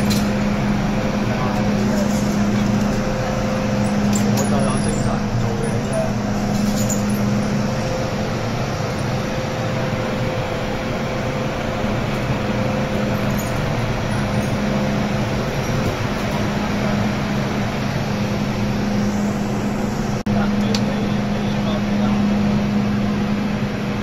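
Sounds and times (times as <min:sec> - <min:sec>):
low hum: 0:00.0 - 0:24.0
train wheels rumbling on rail: 0:00.0 - 0:24.0.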